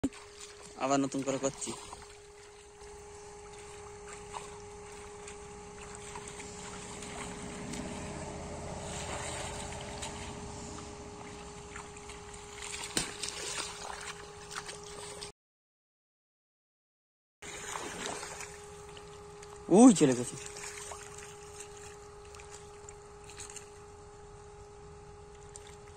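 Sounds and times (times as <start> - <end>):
water splashing and sloshing: 0.0 - 15.3, 17.4 - 25.9
steady hum: 0.1 - 15.2, 17.5 - 25.9.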